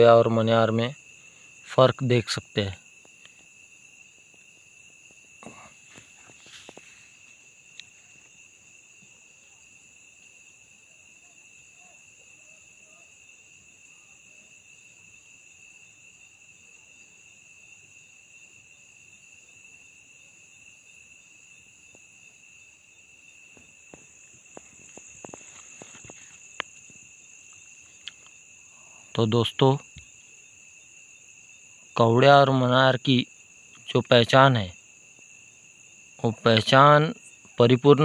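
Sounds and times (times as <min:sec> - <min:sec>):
crickets chirring: 0:00.0 - 0:38.0.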